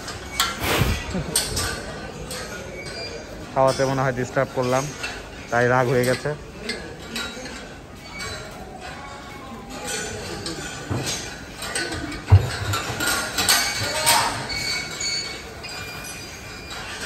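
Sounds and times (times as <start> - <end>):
metal clinks and knocks: 0.0 - 17.0.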